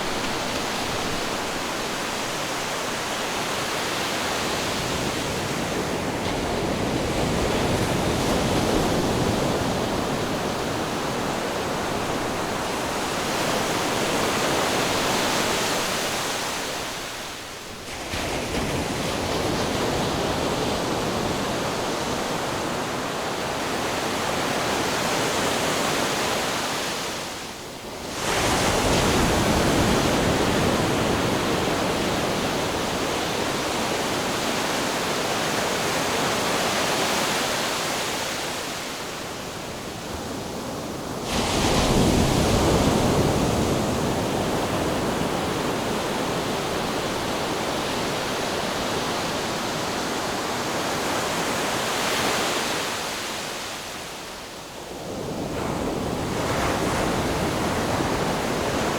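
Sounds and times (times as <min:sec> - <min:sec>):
ocean surf washing: 0:00.0 - 0:58.9.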